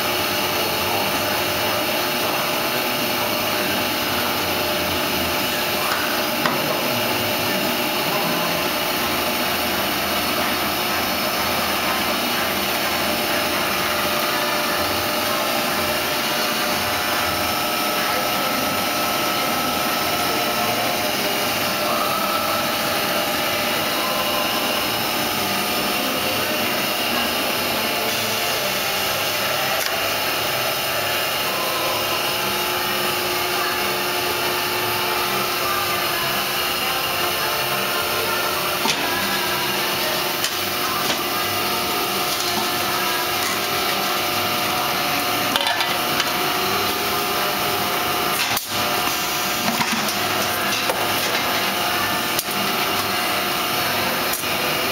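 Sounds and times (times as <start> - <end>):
industrial machine hiss and hum: 0.0 - 54.9.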